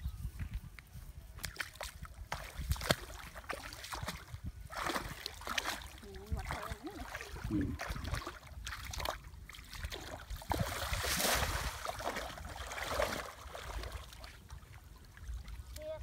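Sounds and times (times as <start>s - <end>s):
water splashing and trickling: 1.4s - 16.0s.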